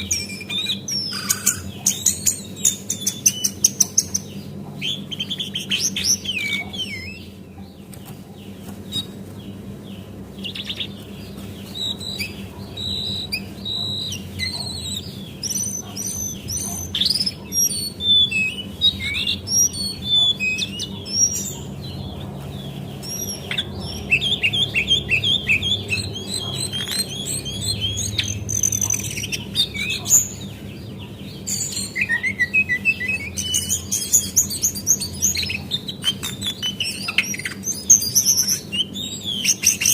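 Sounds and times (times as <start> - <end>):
bird chirps whistles and trills: 0.0 - 7.4, 8.9 - 9.2, 10.4 - 39.9.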